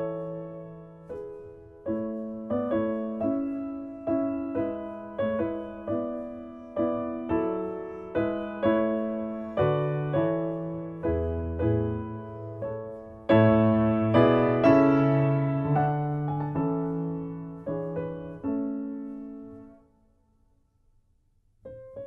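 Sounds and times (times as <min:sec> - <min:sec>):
slow piano chords: 0:00.0 - 0:20.5, 0:21.6 - 0:22.0.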